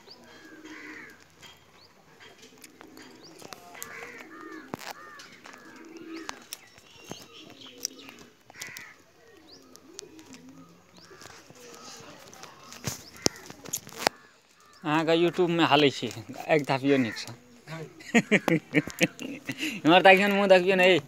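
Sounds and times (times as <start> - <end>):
birds chirping: 0.0 - 21.0
birds warbling: 0.0 - 21.0.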